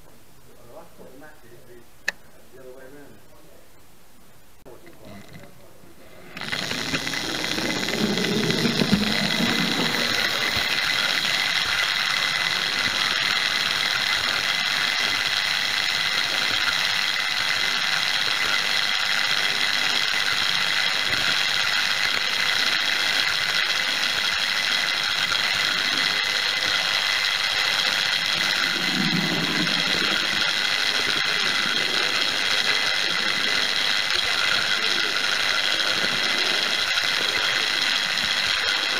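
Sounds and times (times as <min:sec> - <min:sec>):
electric motor whine: 0:05.0 - 0:38.9.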